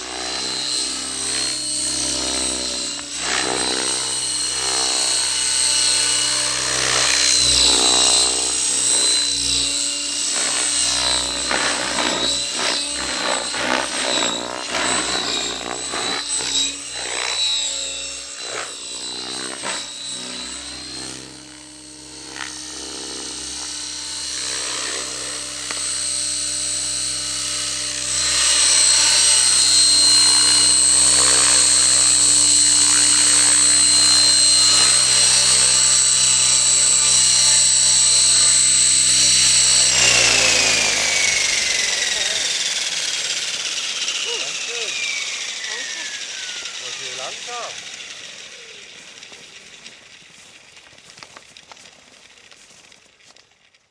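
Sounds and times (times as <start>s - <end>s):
model helicopter rotor whine: 0.0s - 53.9s.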